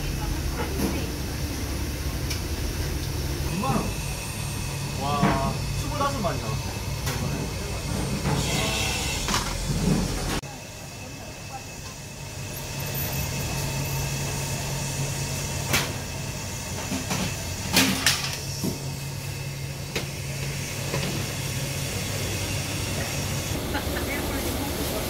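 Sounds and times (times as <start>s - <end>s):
steam hissing: 0.0s - 25.0s.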